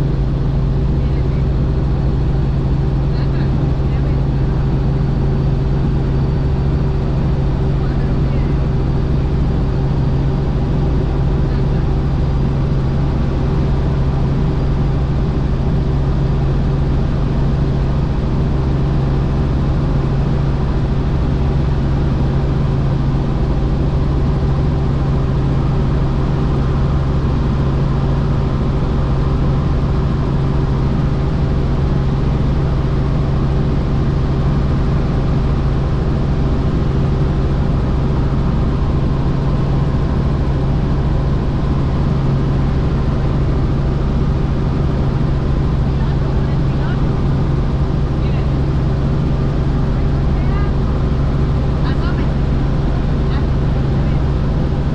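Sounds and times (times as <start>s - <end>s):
helicopter engine and rotor drone: 0.0s - 54.9s.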